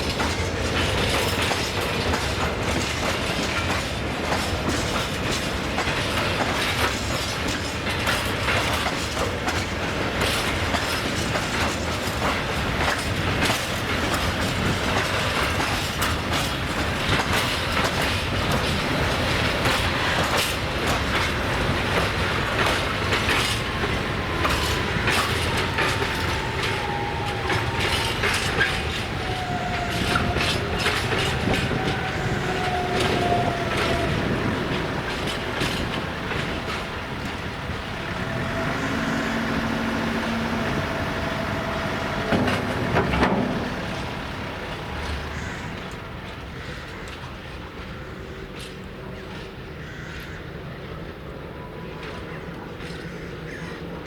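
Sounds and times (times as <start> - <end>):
wheels clicking over rail joints: 0.0 - 49.8, 51.8 - 54.0
train rumbling past: 0.0 - 54.0.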